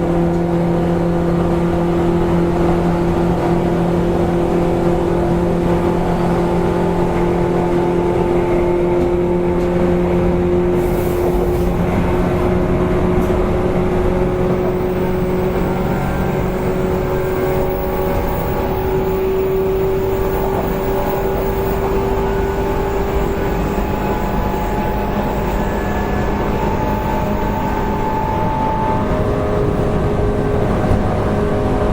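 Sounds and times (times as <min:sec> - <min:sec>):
wheels roaring on rail: 0:00.0 - 0:31.9
train traction motors whining: 0:00.1 - 0:31.9.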